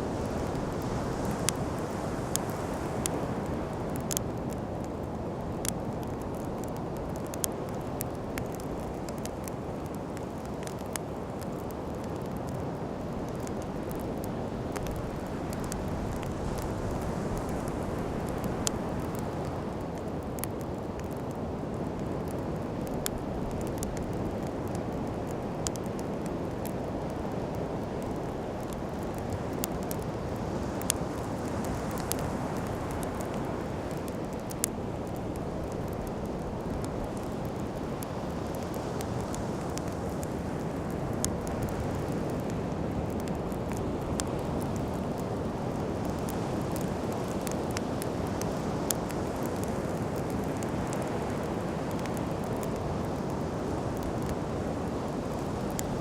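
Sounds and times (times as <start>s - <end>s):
campfire crackling: 0.0s - 56.0s
sea and wind rushing: 0.0s - 56.0s.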